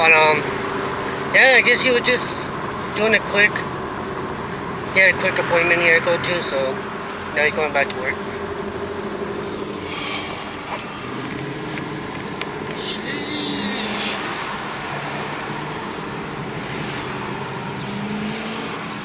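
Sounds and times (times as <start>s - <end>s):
car engine cruising drone: 0.0s - 19.0s
road noise: 0.0s - 19.0s.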